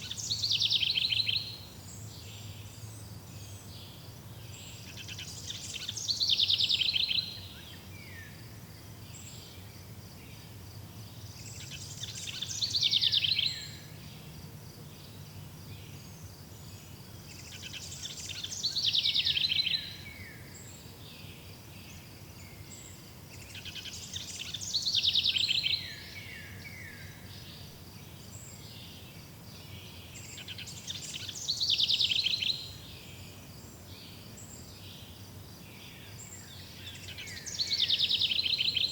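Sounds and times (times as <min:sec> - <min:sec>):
songbird singing trill: 0:00.0 - 0:38.9.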